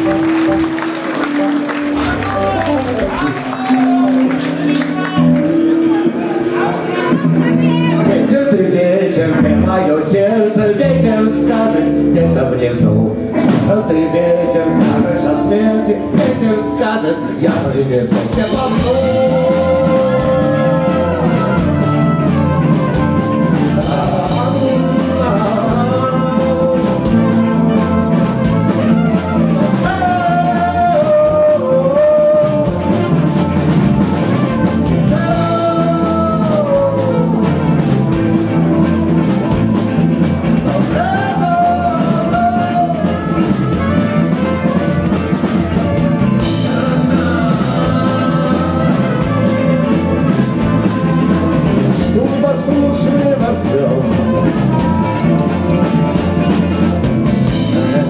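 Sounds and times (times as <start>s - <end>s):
bending lead guitar melody: 0.0s - 58.0s
live band playing instrumental: 0.0s - 58.0s.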